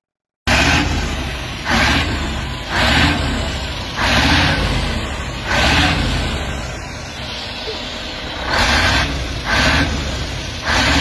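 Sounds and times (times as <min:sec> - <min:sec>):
diesel truck engine revving: 0:00.5 - 0:11.0.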